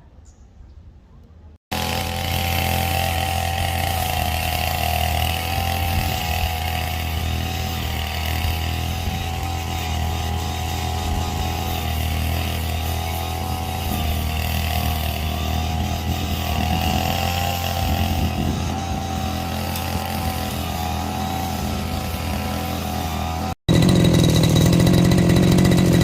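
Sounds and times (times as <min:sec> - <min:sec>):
brush cutter engine running: 0:01.7 - 0:26.0.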